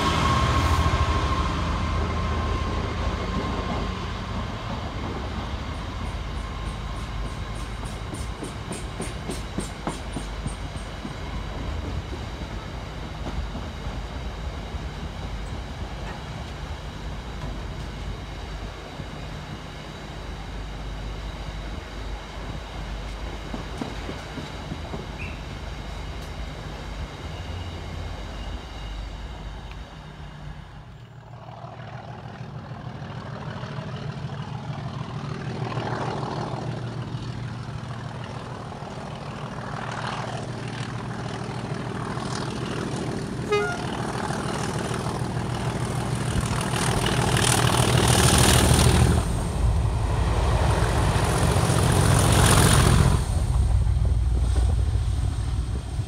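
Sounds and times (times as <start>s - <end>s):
diesel locomotive engine working hard: 0.0s - 56.0s
steel wheels rumbling on rail: 0.0s - 56.0s.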